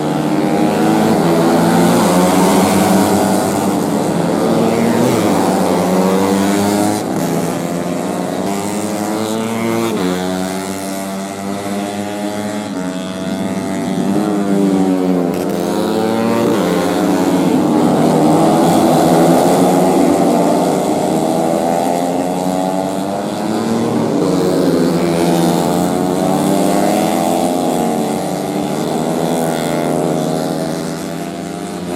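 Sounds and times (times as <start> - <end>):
race motorcycle engines: 0.0 - 31.9.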